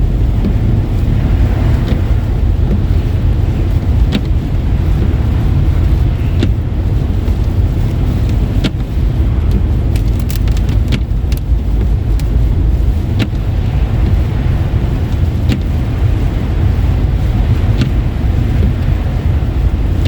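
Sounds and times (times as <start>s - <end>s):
car driving on slushy road: 0.0s - 20.0s.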